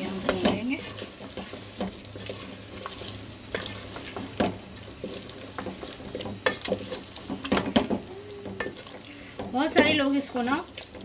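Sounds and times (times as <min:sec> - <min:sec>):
spoon scraping and knocking pot: 0:00.0 - 0:10.1
masala sizzling in a pot: 0:00.0 - 0:11.0.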